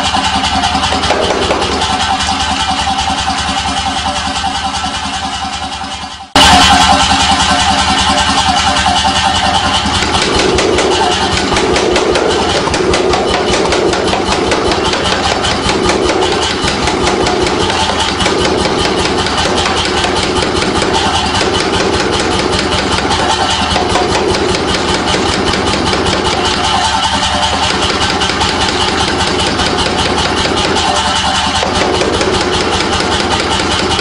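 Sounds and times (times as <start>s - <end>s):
power hammer striking steel: 0.0s - 34.0s.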